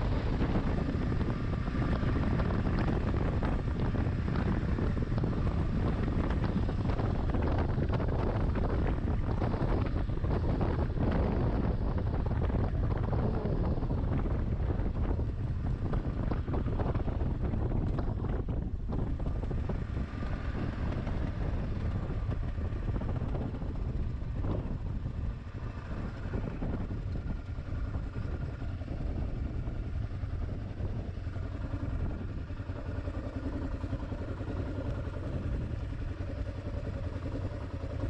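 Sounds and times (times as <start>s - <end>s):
motorcycle engine rumble: 0.0s - 38.0s
wind buffeting microphone: 0.0s - 38.0s.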